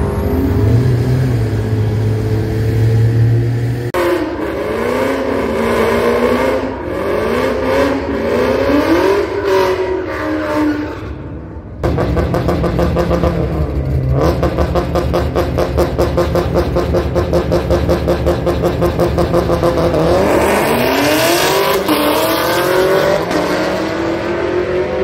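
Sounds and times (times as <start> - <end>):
racing car engine idling and revving: 0.0 - 25.0.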